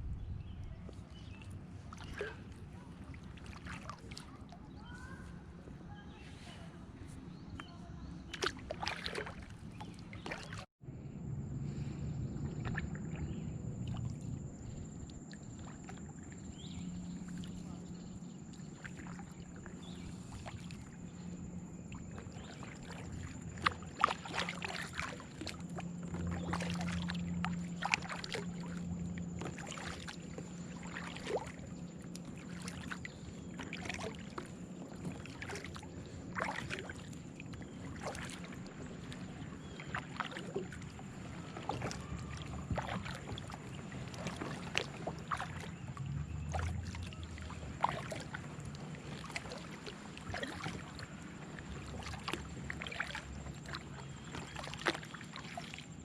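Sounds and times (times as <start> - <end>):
paddle strokes splashing water: 0.4 - 10.7, 11.6 - 56.0.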